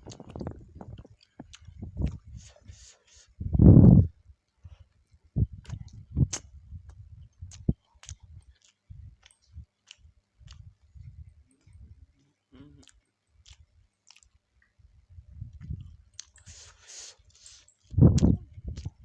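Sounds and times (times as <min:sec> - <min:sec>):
chewing with mouth smacks: 0:00.0 - 0:03.3, 0:05.6 - 0:14.8, 0:15.5 - 0:19.0.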